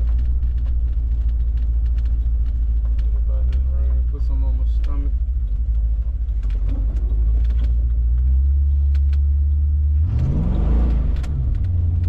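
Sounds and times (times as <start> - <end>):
car engine rumbling and revving: 0.0 - 12.0.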